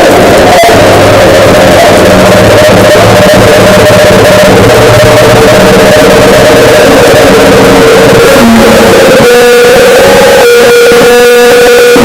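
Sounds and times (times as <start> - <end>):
harsh distorted noise: 0.0 - 12.0
low hum: 0.0 - 12.0
steady mid-pitched tone: 0.0 - 12.0.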